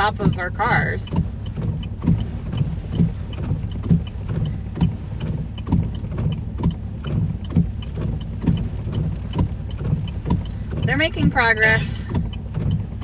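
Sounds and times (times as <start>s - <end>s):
short ticking: 0.0s - 13.0s
truck engine low rumble: 0.0s - 13.0s.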